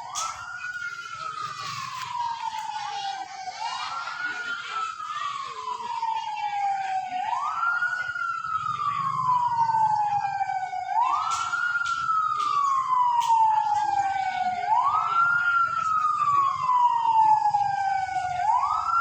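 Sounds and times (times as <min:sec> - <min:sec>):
siren-like wailing tone: 0:00.0 - 0:19.0.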